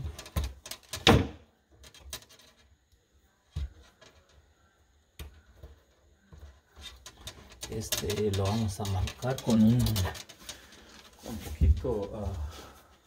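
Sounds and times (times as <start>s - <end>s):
wires clicking and knocking: 0.0s - 13.0s.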